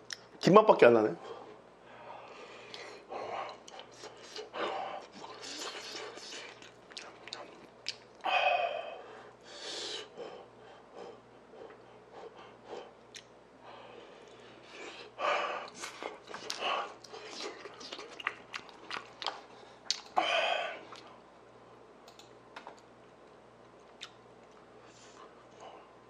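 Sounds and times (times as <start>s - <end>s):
man chewing food: 2.2s - 8.3s, 8.9s - 21.3s, 22.0s - 26.0s.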